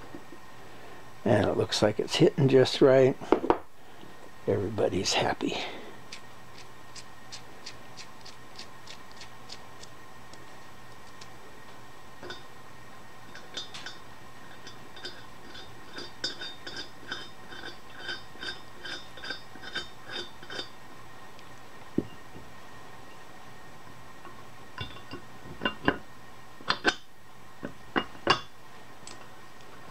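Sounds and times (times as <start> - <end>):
steady hum: 0.0 - 29.9.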